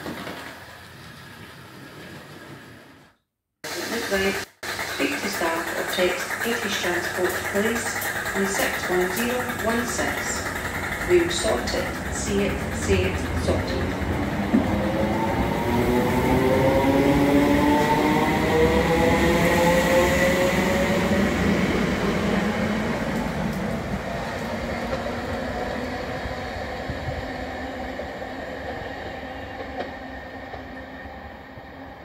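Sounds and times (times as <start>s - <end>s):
electric train motors whining: 3.7s - 32.0s.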